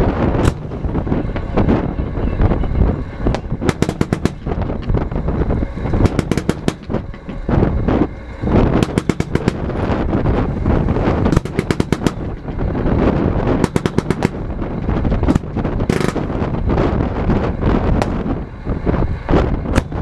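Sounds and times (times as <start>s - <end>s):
fireworks crackling and banging: 0.0s - 18.5s, 19.3s - 20.0s
low rumble: 0.0s - 20.0s.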